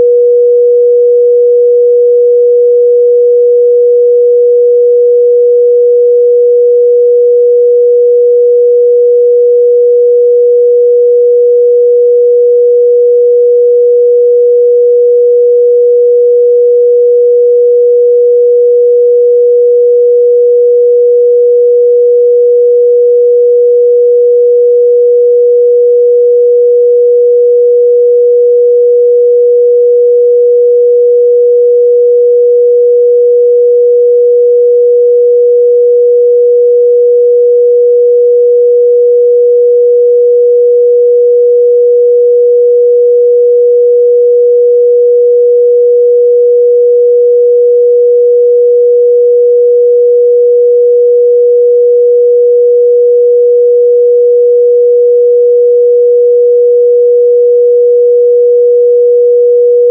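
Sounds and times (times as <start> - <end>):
sine-wave test tone: 0.0 - 59.9.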